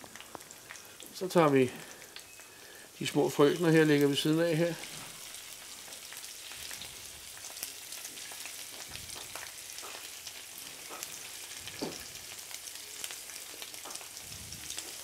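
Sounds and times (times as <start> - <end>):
fat sizzling in a frying pan: 0.0 - 15.0.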